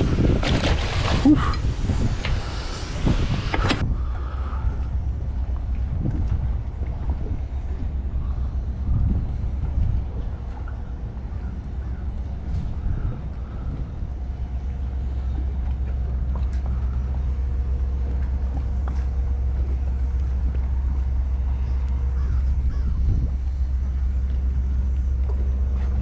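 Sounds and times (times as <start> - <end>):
faint steady hum: 0.0 - 26.0
steady low rumble: 0.0 - 26.0.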